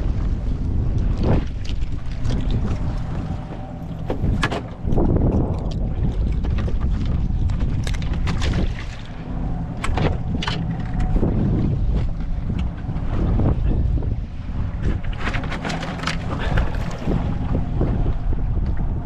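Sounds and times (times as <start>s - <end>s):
water slapping boat hull: 0.0s - 19.0s
wind buffeting microphone: 0.0s - 19.0s.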